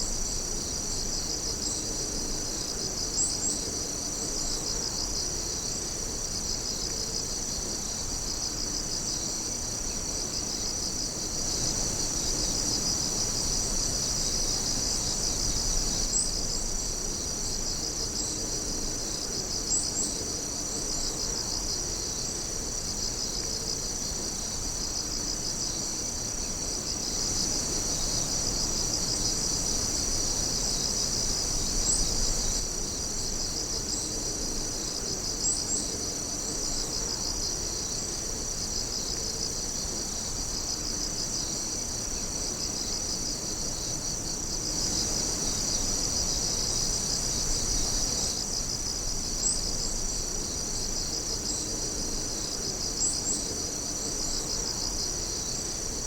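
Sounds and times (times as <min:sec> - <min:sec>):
night insects chirping: 0:00.0 - 0:56.0.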